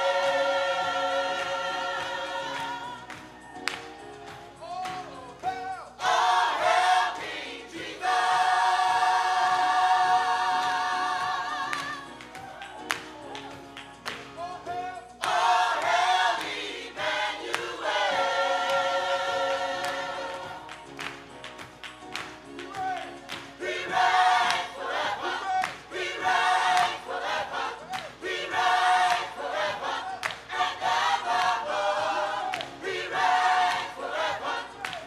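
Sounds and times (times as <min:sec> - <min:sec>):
gospel choir singing: 0:00.0 - 0:35.0
keyboard accompaniment: 0:00.0 - 0:35.0.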